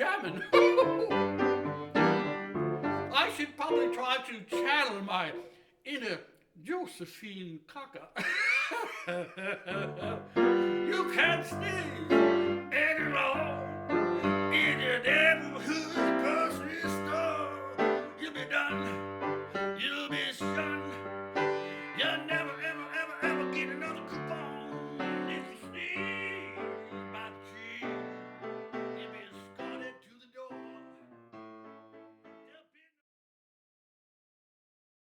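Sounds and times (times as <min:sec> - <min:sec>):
blues piano music: 0:00.0 - 0:05.5, 0:09.7 - 0:32.5.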